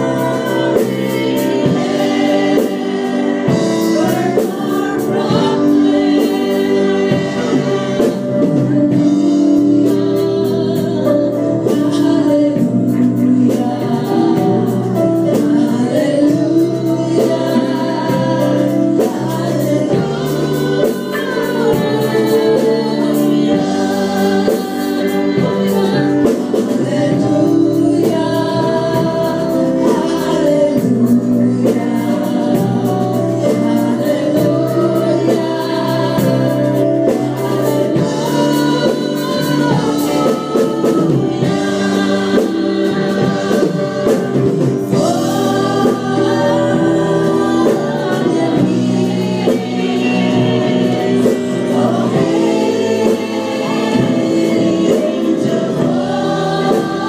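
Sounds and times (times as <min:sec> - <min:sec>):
band with drums and keyboard: 0:00.0 - 0:57.0
group of singers singing: 0:00.0 - 0:57.0.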